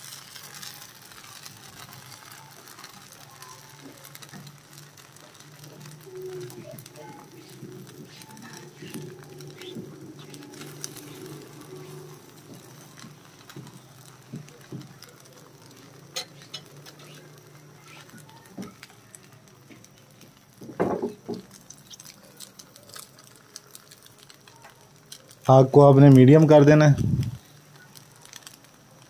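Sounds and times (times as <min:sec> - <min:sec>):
batter ticking as it cooks: 0:00.0 - 0:29.0.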